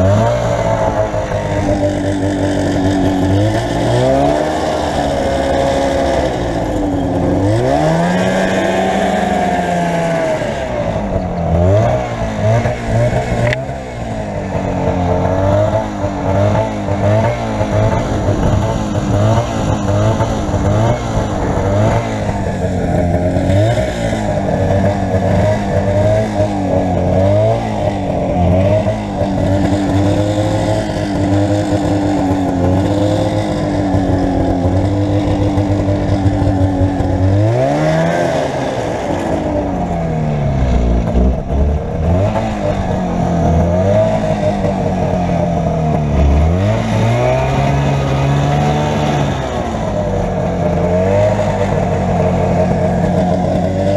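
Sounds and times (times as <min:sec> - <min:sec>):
snowmobile engine revving: 0:00.0 - 0:53.9.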